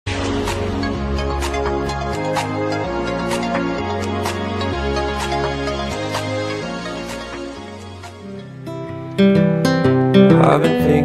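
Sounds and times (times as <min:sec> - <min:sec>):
electronic music with a beat: 0:00.1 - 0:10.9.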